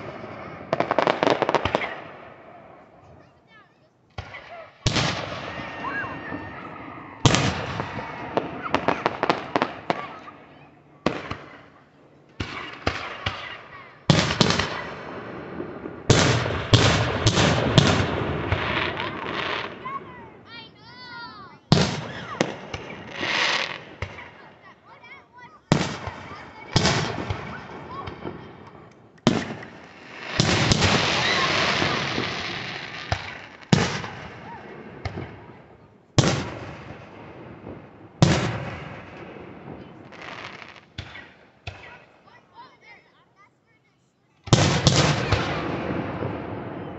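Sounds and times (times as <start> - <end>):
fireworks bursting: 0.0 - 3.0, 4.1 - 20.3, 20.9 - 24.5, 25.7 - 35.6, 36.2 - 42.0, 44.4 - 46.9.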